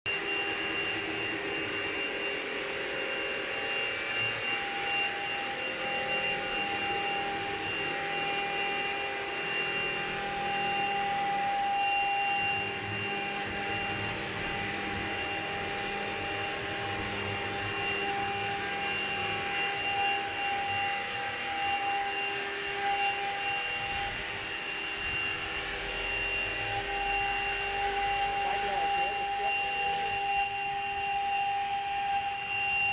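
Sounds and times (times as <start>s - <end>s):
engraving machine spindle whine: 0.1s - 32.9s.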